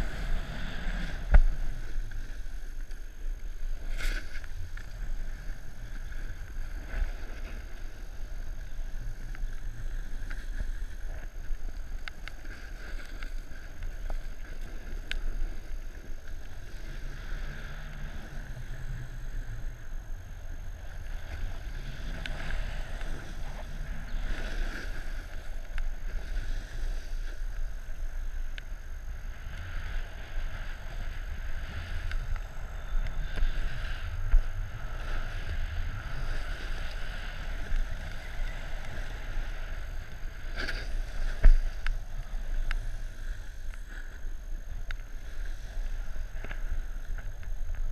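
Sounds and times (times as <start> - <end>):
snowboard carving over snow: 0.0 - 47.9
wind rumble on microphone: 0.0 - 47.9.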